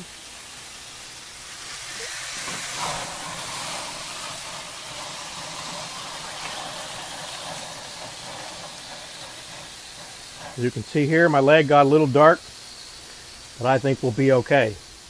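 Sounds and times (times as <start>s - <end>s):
flames flaring: 0.0s - 14.3s
chicken sizzling on a grill: 0.0s - 15.0s.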